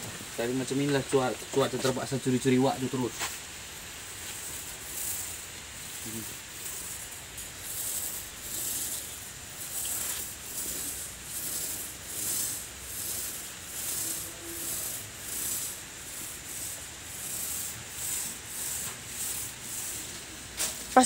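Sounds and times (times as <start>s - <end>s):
paint roller on wall: 0.0s - 21.0s.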